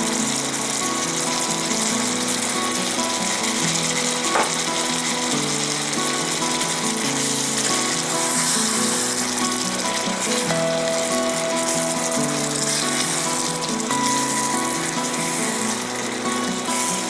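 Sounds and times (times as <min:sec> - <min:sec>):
background music: 0:00.0 - 0:17.0
chicken and onions sizzling: 0:00.0 - 0:17.0.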